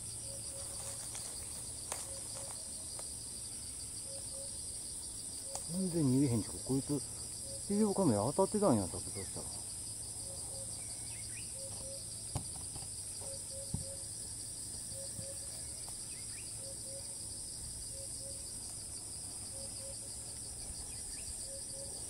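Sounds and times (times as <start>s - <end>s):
cicadas droning: 0.0s - 22.0s
pulsing insect trill: 0.0s - 22.0s.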